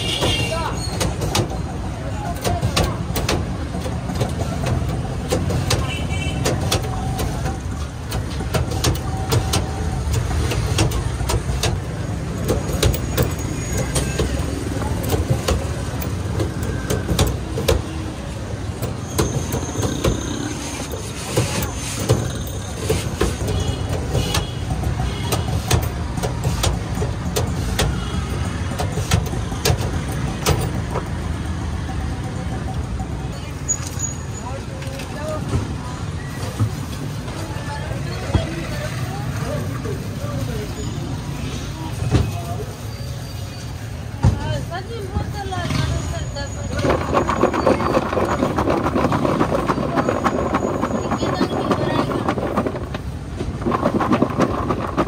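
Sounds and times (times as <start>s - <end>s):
street traffic rumble: 0.0s - 55.0s.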